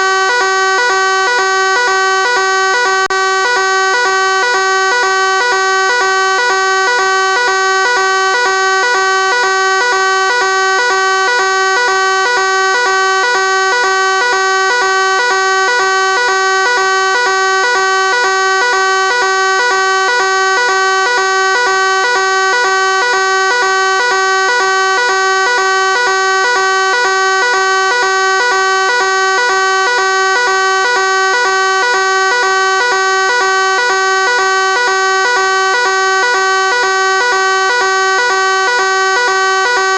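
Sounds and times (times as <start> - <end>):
fire alarm tone: 0.0 - 39.9.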